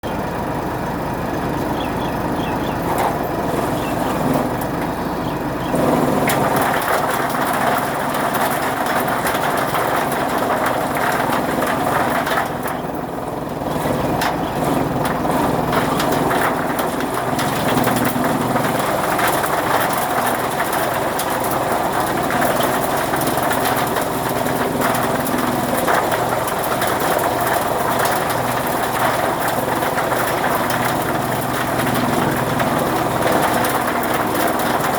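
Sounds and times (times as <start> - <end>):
chaff cutter machine running: 0.0 - 34.9.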